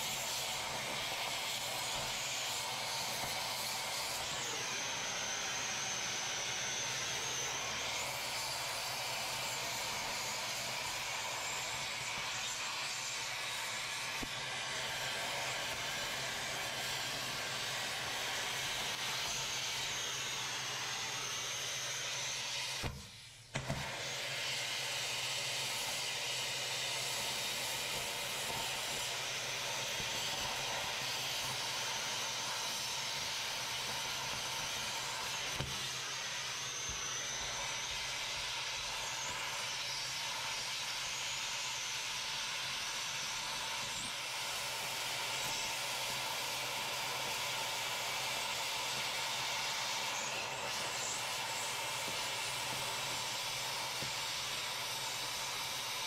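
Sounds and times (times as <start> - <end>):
cutting torch hissing: 0.0 - 56.0.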